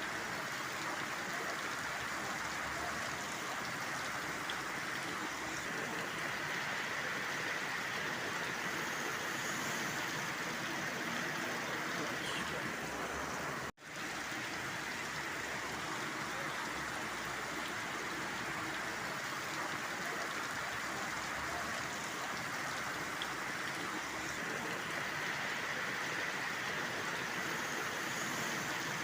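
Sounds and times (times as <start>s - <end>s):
heavy rain downpour: 0.0s - 29.0s.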